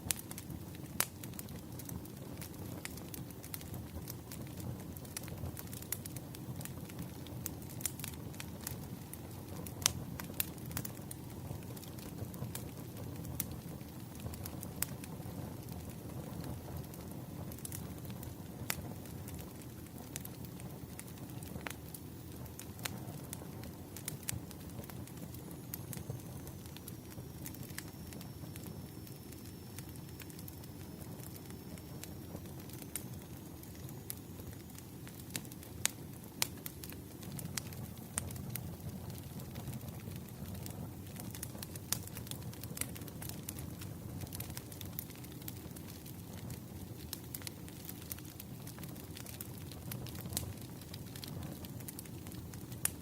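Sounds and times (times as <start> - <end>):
firewood crackling and popping: 0.0 - 53.0
low rumble of flame: 0.0 - 53.0.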